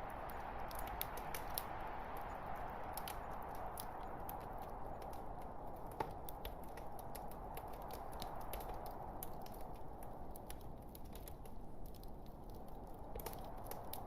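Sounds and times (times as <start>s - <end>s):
low rush of flame: 0.0s - 14.0s
wood fire crackling: 0.0s - 14.0s.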